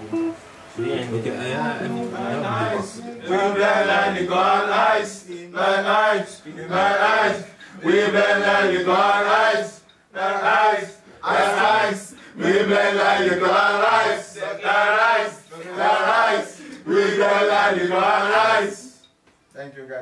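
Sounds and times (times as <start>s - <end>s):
men singing a chant-like phrase: 1.4s - 19.0s.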